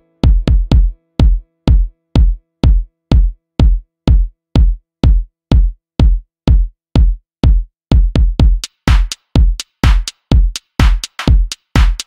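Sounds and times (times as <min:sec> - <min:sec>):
drum machine kick drum: 0:00.0 - 0:12.0.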